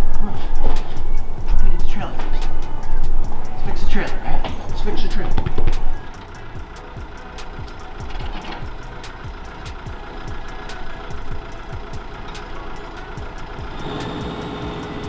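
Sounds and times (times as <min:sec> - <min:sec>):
background music with low thumps: 0:00.0 - 0:15.0
excavator diesel engine running: 0:00.0 - 0:15.0.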